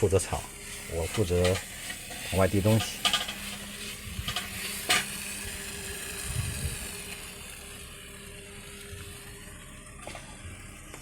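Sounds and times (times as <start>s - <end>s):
meat and vegetables sizzling: 0.4s - 9.9s.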